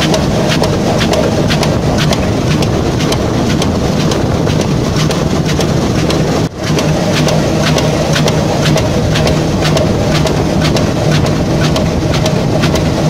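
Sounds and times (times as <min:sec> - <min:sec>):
industrial machine low hum: 0:00.0 - 0:13.0
machine regular clicks: 0:00.0 - 0:13.0.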